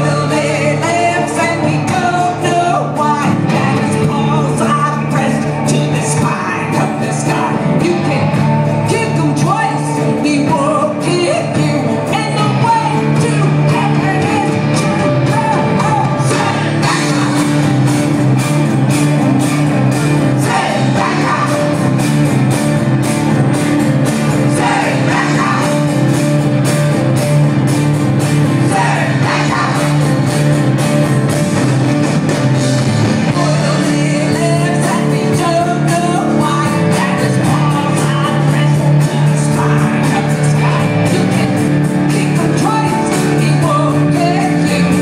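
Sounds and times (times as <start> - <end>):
person singing: 0.0 - 18.1, 20.3 - 22.3, 24.0 - 26.4, 28.5 - 30.5, 33.2 - 45.0
live rock band playing: 0.0 - 45.0.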